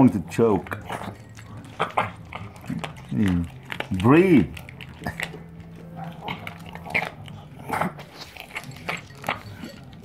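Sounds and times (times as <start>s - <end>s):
dog crunching dry kibble: 0.0s - 10.0s.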